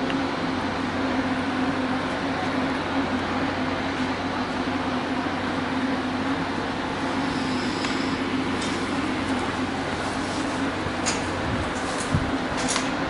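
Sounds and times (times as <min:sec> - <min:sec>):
constant low hum: 0:00.0 - 0:13.0
train rumbling: 0:00.0 - 0:13.0.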